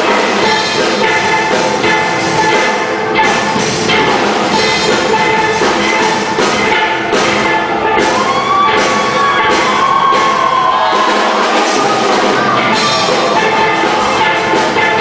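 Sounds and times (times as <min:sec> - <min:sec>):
drum kit: 0:00.0 - 0:15.0
steel pans playing a tune: 0:00.0 - 0:15.0.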